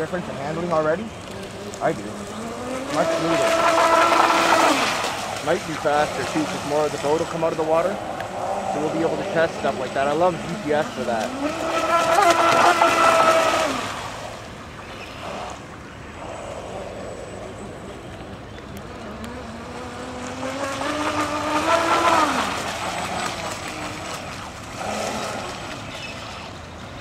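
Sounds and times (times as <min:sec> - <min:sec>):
boat motor whine: 0:00.0 - 0:27.0
hiss of water and wind: 0:00.0 - 0:27.0.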